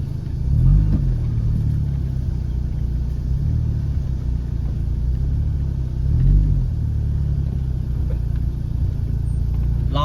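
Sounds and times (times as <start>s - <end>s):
car engine running at low speed: 0.0s - 10.0s.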